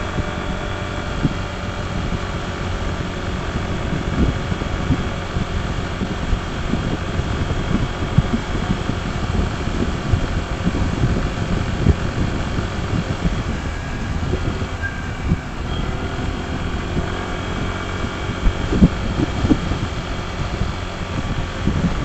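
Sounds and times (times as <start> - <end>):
scooter engine running: 0.0 - 22.0
wind buffeting microphone: 0.0 - 22.0.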